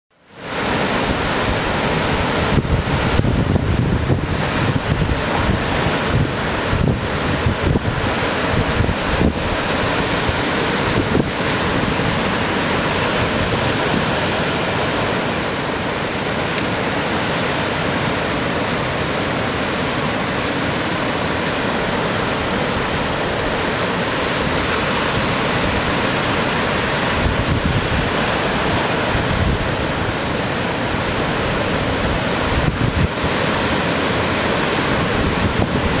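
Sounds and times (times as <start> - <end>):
ocean surf breaking on rocks: 0.2 - 36.0
wind buffeting microphone: 0.7 - 15.5, 21.4 - 36.0.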